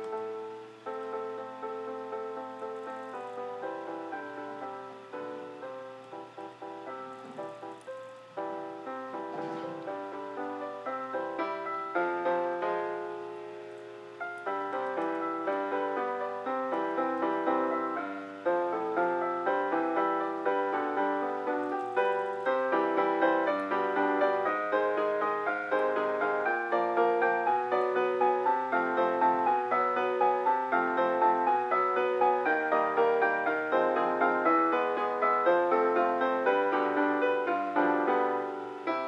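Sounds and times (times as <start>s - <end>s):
solo piano piece: 0.0s - 39.0s.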